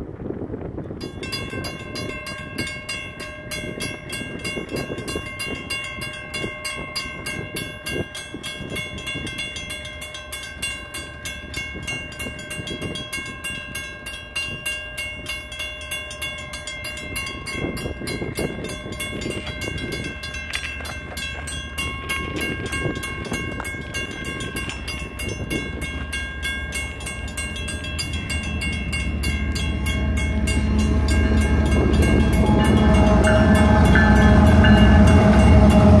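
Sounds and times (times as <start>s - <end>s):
crossing bells ringing: 0.8s - 36.0s.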